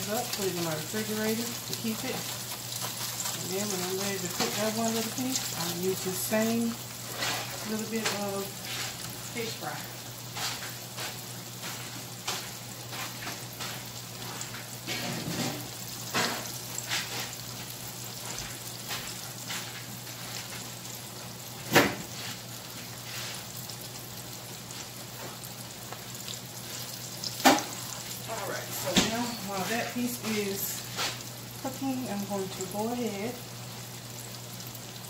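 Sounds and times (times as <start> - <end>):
fish sizzling in oil: 0.0 - 35.0.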